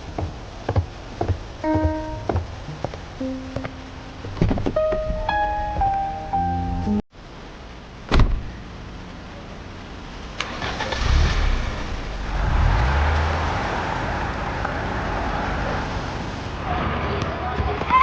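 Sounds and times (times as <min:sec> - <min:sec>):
car engine starting and running: 0:00.0 - 0:16.6.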